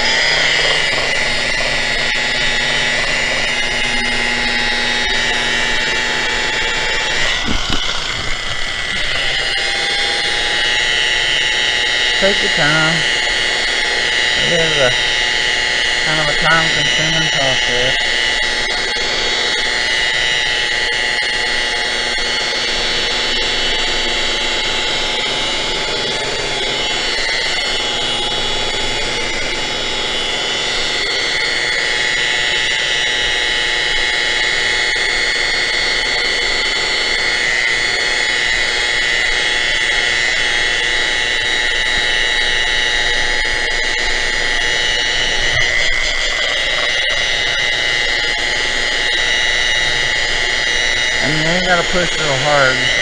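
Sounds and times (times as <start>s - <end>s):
electric buffer whining: 0.0s - 53.0s.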